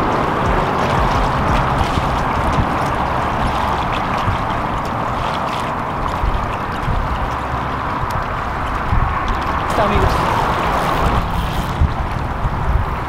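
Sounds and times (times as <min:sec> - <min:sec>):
waves washing against rocks: 0:00.0 - 0:13.0
wind buffeting microphone: 0:00.0 - 0:13.0.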